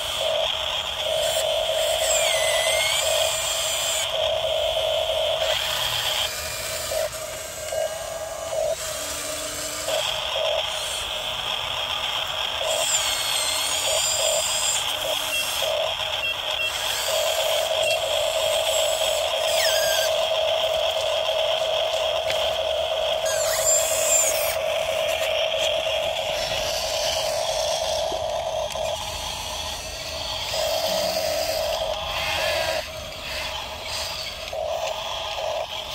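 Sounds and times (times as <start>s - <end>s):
small electric motors whining: 0.0s - 35.9s.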